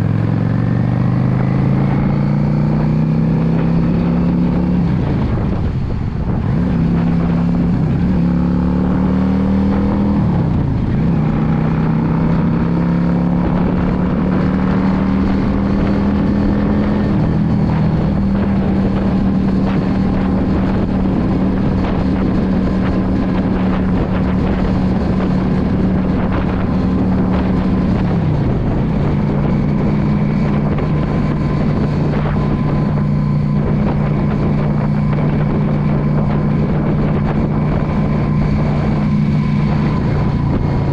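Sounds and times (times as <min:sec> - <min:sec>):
motorcycle engine revving: 0:00.0 - 0:40.9
wind rushing over microphone: 0:00.0 - 0:40.9.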